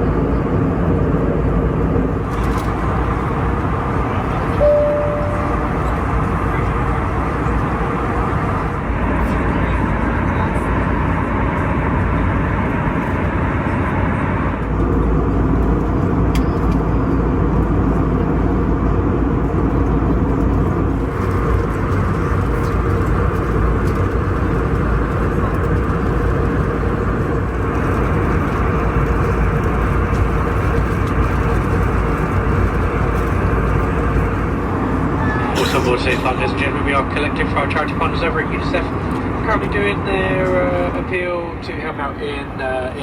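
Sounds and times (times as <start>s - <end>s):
airflow roar and engine hum: 0.0s - 43.0s.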